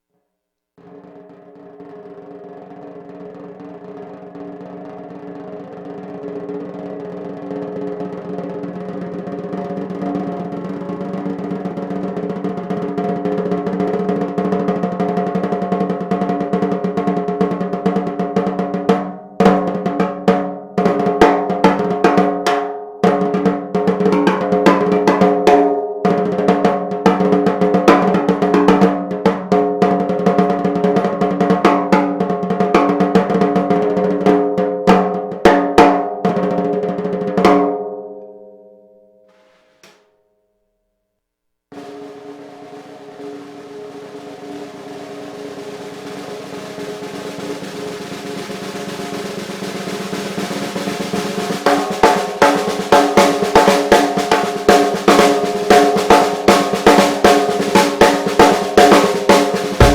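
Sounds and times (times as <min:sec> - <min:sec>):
snare drum roll and fills: 0:00.8 - 0:37.8, 0:41.7 - 0:59.9.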